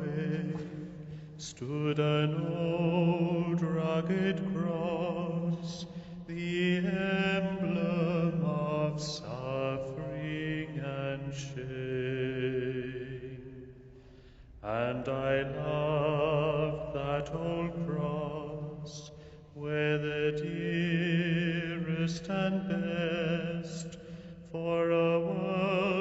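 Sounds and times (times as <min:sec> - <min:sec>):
person singing a hymn: 0:00.0 - 0:13.7, 0:14.6 - 0:26.0.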